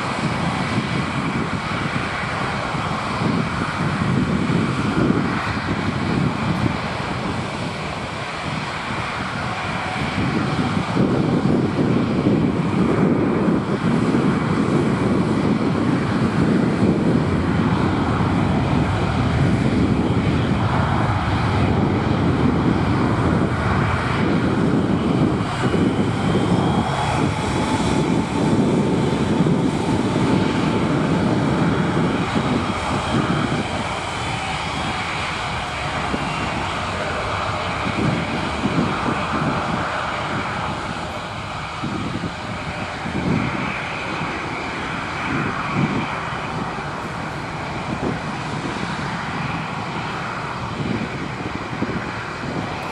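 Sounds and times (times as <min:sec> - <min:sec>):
jet engines rushing with whine: 0:00.0 - 0:52.9.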